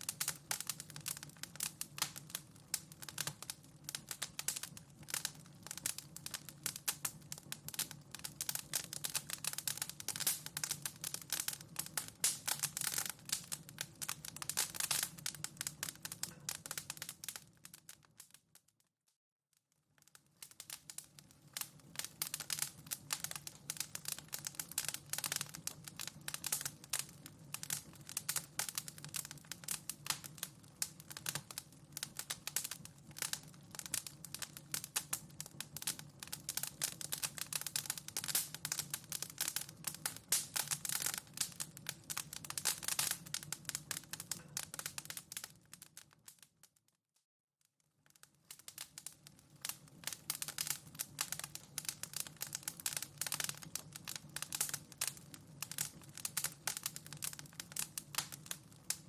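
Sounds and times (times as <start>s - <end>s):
wood fire crackling and popping: 0.0s - 18.8s, 19.8s - 46.8s, 48.0s - 59.0s.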